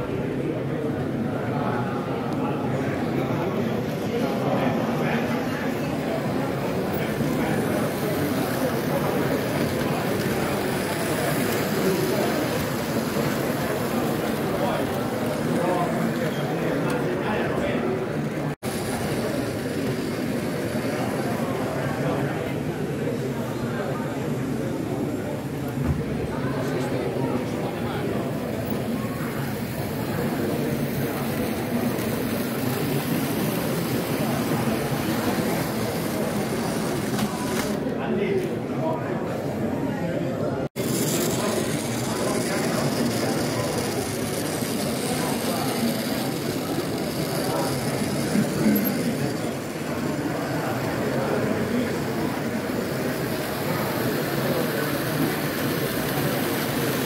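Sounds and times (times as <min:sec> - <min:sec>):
faint background chatter: 0:00.0 - 0:57.0
hubbub of voices: 0:00.0 - 0:57.0
model train running on track: 0:00.0 - 0:57.0.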